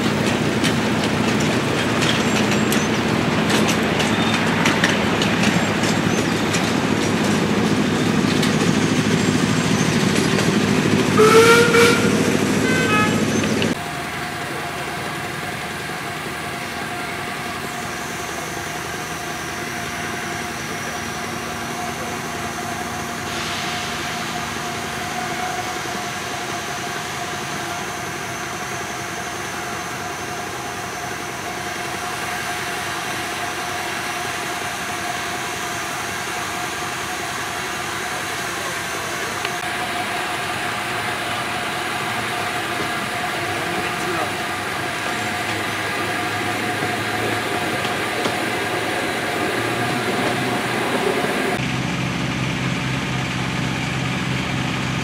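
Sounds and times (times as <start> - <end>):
small train running: 0.0 - 55.0.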